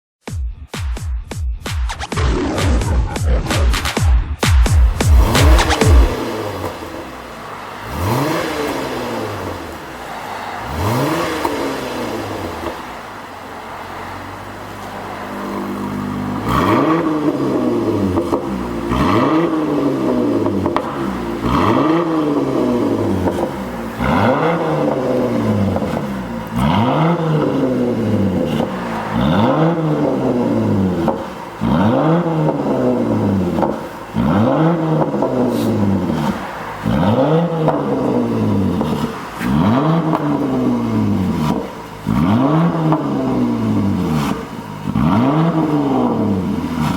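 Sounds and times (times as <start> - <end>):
car engine revving: 1.9 - 46.9.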